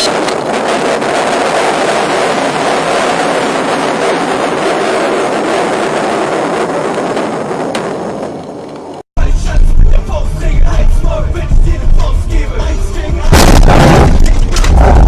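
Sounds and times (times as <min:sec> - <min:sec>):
moving car road noise: 0:00.0 - 0:15.0.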